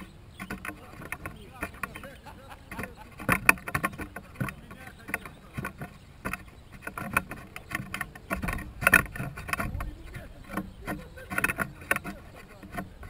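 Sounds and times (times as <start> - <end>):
camera rustling and knocking: 0.0 - 13.0
wind rumble on microphone: 0.0 - 13.0.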